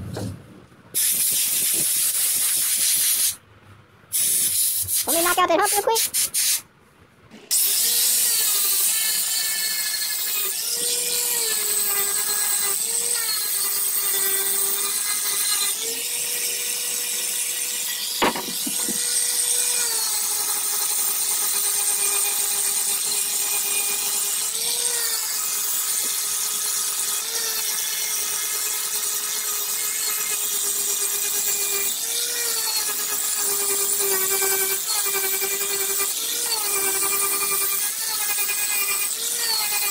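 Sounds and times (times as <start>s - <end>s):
electric grinder grinding fiberglass: 7.5s - 39.9s.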